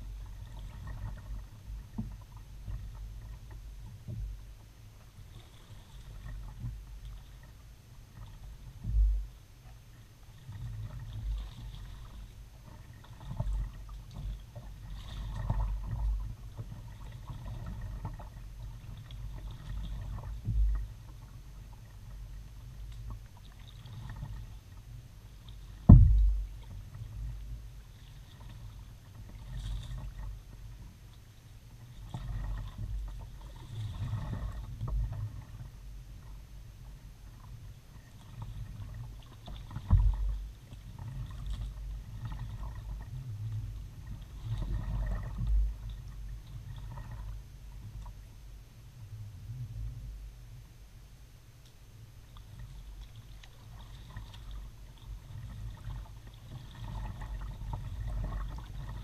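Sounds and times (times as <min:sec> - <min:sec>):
paddle splashes: 0:00.0 - 0:48.3, 0:52.1 - 0:59.0
low rumble and knocking through hull: 0:00.0 - 0:59.0.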